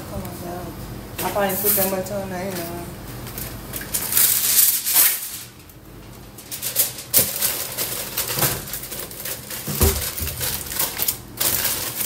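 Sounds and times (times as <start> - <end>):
aluminium foil crinkling: 1.3 - 12.0.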